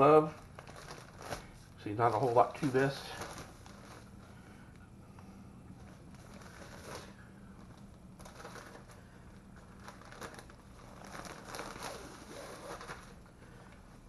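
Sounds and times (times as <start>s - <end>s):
plastic bag crinkling: 0.0s - 4.2s, 5.8s - 14.0s.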